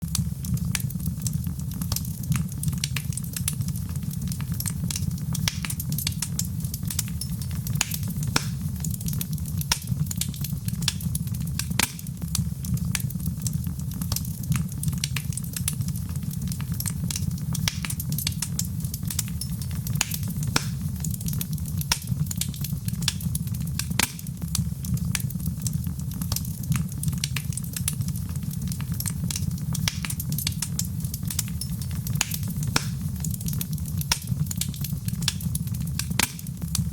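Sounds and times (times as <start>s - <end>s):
fireplace fire crackling: 0.0s - 36.9s.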